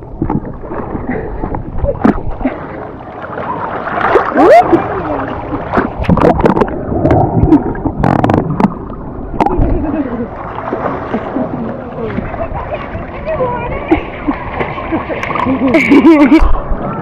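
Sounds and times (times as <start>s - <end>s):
water splashing around swimmer: 0.0s - 8.8s, 9.4s - 17.0s.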